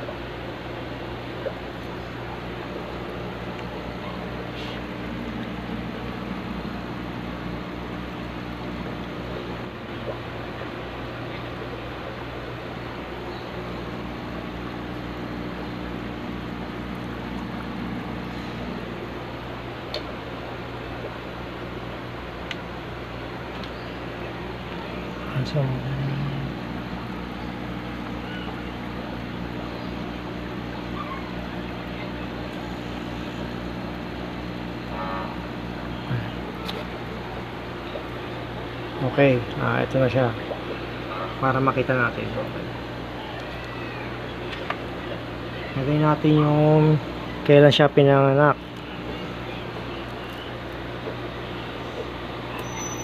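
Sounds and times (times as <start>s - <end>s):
sponge filters bubbling: 0.0s - 52.7s
air pump humming: 0.0s - 53.0s.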